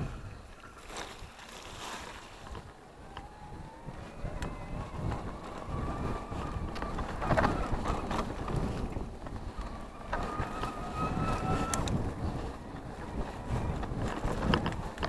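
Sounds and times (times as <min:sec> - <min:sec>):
tyres rattling on dirt: 0:00.0 - 0:15.0
wind buffeting microphone: 0:00.0 - 0:15.0
electric bike motor whining: 0:02.4 - 0:15.0.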